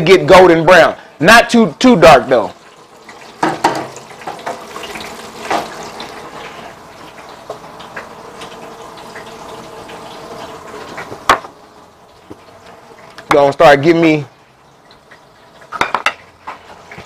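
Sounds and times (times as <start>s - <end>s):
food sizzling in a deep fryer: 0.0s - 17.0s.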